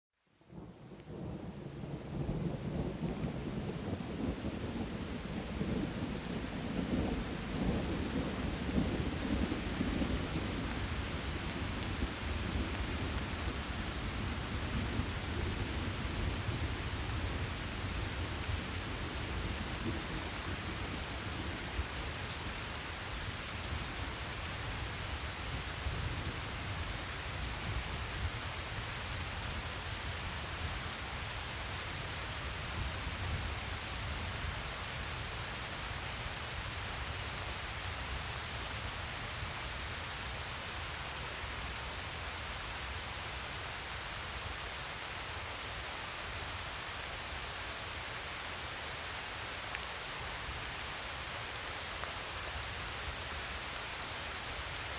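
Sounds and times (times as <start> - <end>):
steady rain falling: 0.2 - 54.9.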